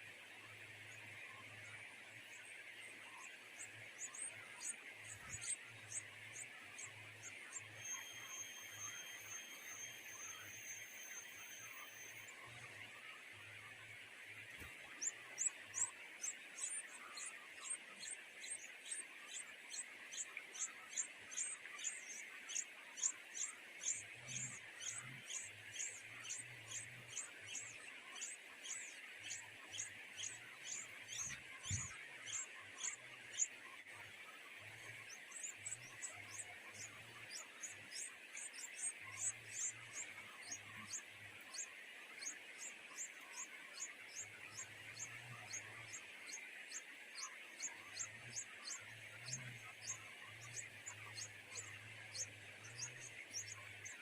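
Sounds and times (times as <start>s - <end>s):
nestling birds begging chirps: 1.0s - 13.8s, 14.4s - 54.0s.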